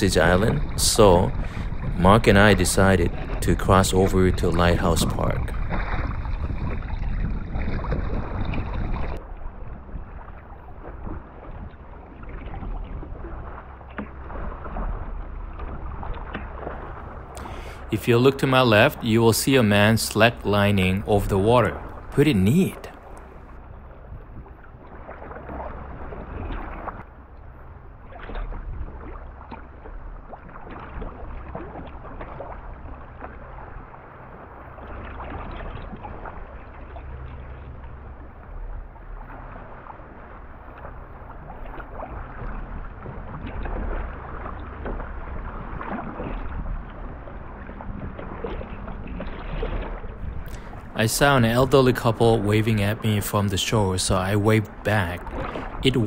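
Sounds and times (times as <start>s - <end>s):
paddle splashes: 0.0s - 56.0s
water lapping around kayak: 0.0s - 56.0s.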